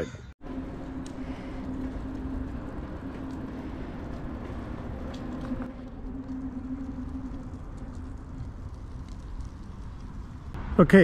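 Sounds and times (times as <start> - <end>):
wind: 0.0 - 11.0
bicycle rolling on pavement: 0.4 - 10.7
low hum: 0.4 - 10.9.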